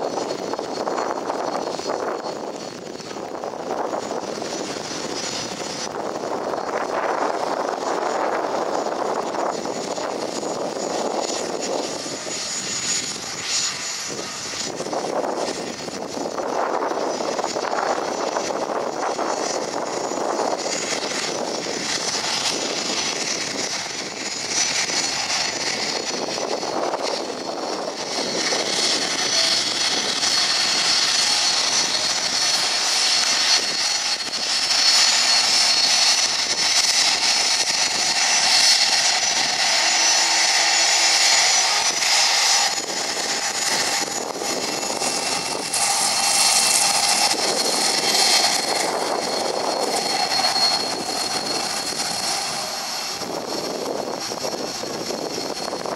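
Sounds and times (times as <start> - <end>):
jet engines whining while taxiing: 0.0 - 55.9.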